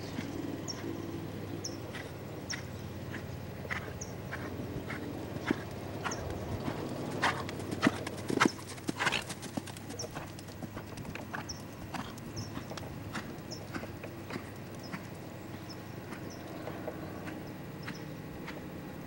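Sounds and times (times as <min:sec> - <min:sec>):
horse hoofbeats: 0:00.0 - 0:19.0.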